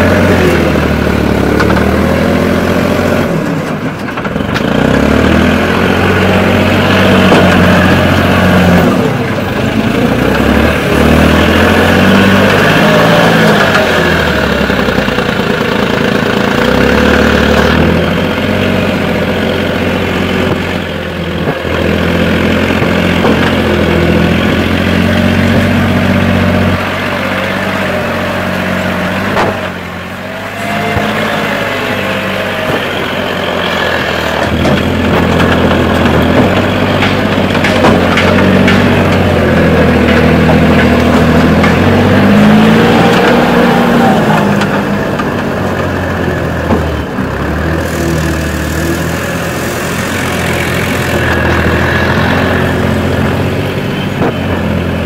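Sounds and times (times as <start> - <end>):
backhoe engine revving: 0.0 - 55.0.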